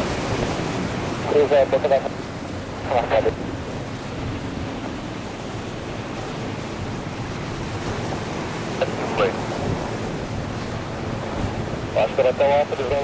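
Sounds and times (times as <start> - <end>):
airliner engines rumbling: 0.0 - 13.0
wind rush on microphone: 0.0 - 13.0.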